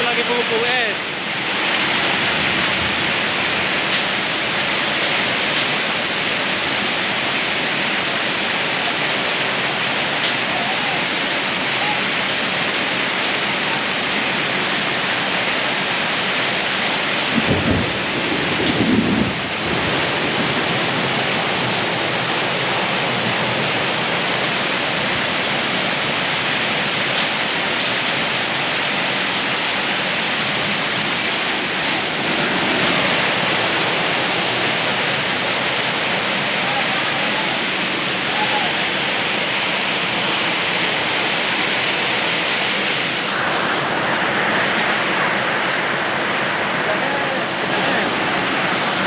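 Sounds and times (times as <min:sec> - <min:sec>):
hail and rain pelting: 0:00.0 - 0:49.0.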